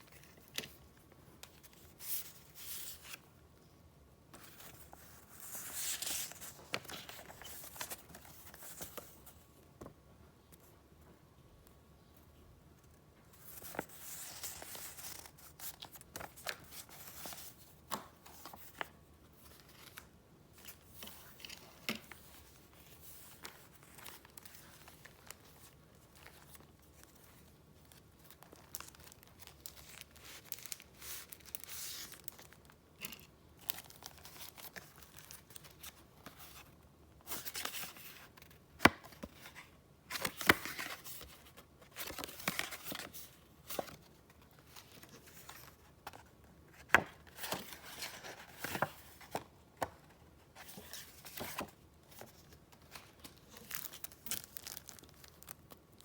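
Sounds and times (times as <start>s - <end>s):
paper rustling and crinkling: 4.4s - 9.4s, 13.4s - 56.0s.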